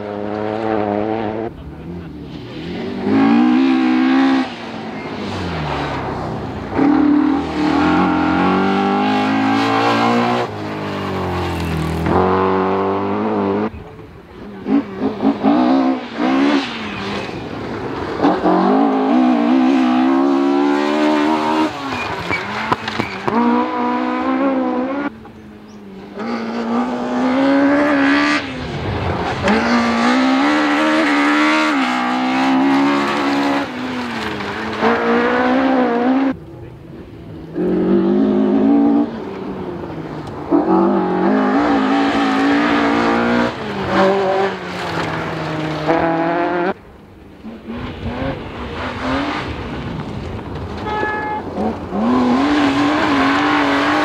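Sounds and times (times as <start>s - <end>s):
rally cars passing at speed: 0.0s - 54.0s.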